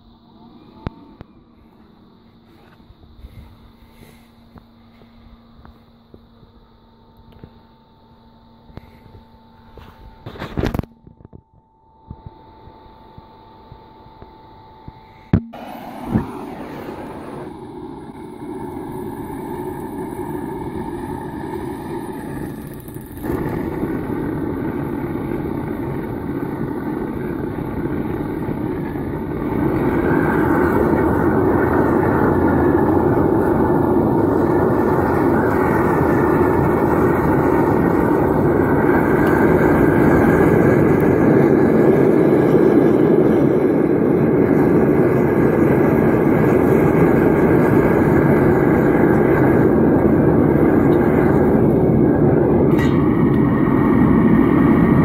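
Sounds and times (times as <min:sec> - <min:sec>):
electric blower rushing hum: 0:08.6 - 0:55.0.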